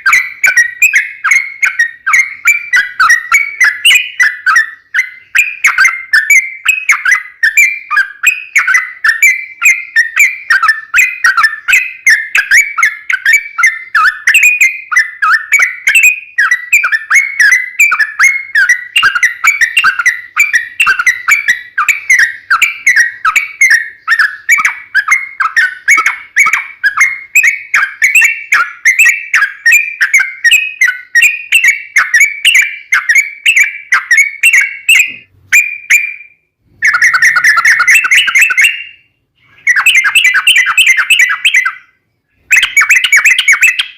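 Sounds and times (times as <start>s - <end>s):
bird singing chattering whistled notes: 0.0s - 43.9s.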